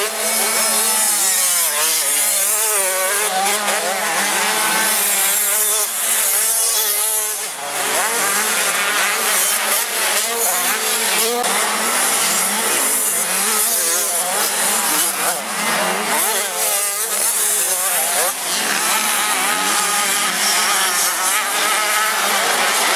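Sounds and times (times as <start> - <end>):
motocross bikes revving: 0.0 - 22.9.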